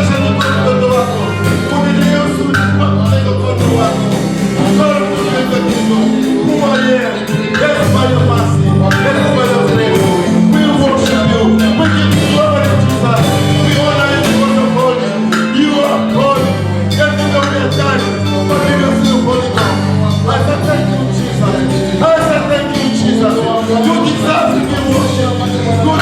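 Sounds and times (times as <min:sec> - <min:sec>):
gospel band music: 0:00.0 - 0:26.0
singing: 0:00.0 - 0:26.0.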